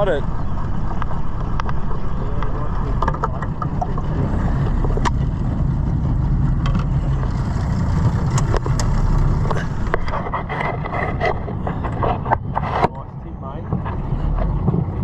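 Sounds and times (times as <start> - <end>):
boat motor rumbling: 0.0 - 15.0.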